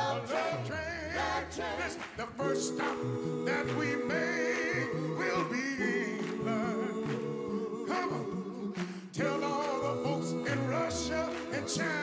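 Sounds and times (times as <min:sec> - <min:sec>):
a cappella group singing: 0:00.0 - 0:12.0.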